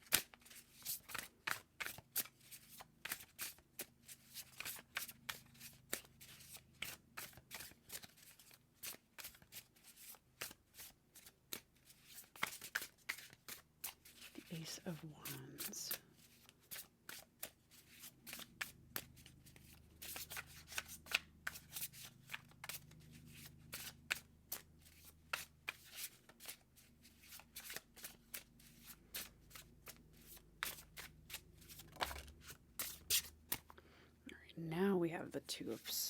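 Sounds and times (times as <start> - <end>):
cards being shuffled: 0.0 - 33.8.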